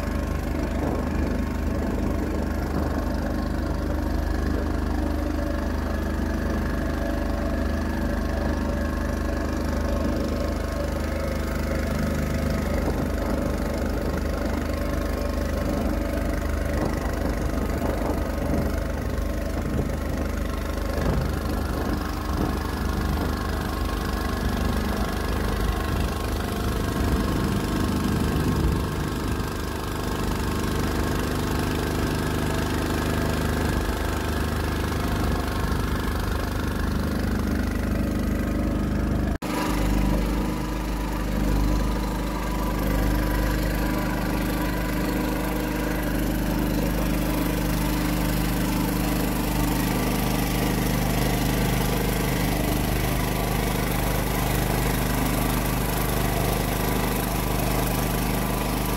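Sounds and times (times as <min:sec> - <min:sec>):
small boat motor running: 0:00.0 - 0:58.9.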